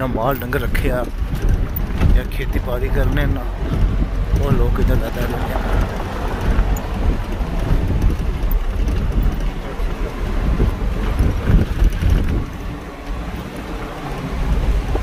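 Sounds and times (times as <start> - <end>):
rushing river: 0.0 - 15.0
wind buffeting microphone: 0.0 - 15.0.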